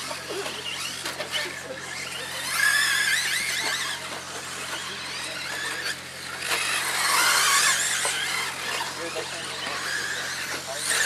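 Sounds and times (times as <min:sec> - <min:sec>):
rc trucks motors whining: 0:00.0 - 0:11.0.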